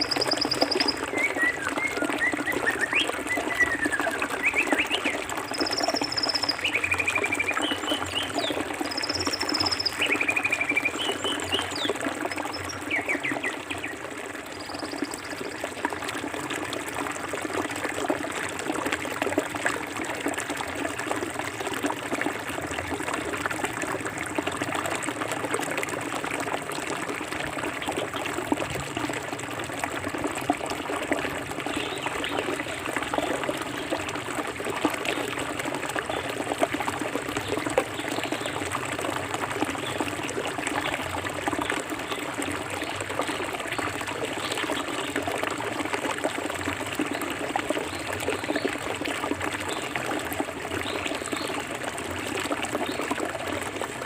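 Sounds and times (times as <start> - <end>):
river water running over stones: 0.0 - 54.0.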